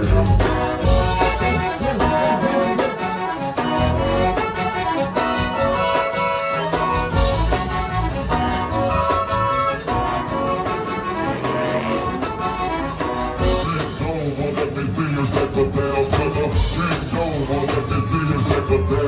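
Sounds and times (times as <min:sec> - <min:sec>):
accordion chords: 0:00.0 - 0:17.6
drum kit beat: 0:00.0 - 0:19.0
electric bass guitar: 0:00.0 - 0:19.0.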